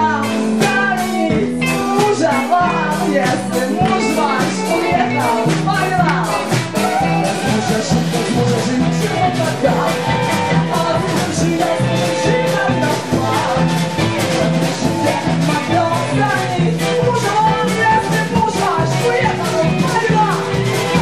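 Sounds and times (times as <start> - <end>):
electric guitars: 0.0 - 21.0
live band playing upbeat song: 0.0 - 21.0.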